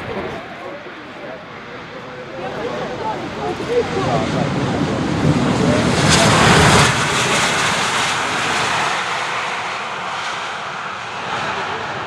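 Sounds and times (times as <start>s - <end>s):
aircraft engine roar: 0.0s - 12.0s.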